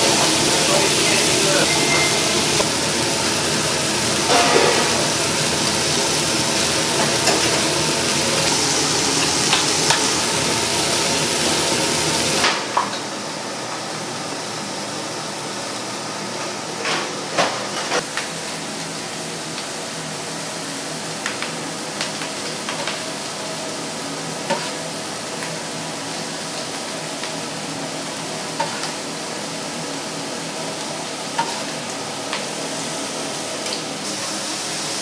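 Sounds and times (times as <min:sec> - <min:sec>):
food sizzling in a pan: 0:00.0 - 0:12.5, 0:18.0 - 0:35.0.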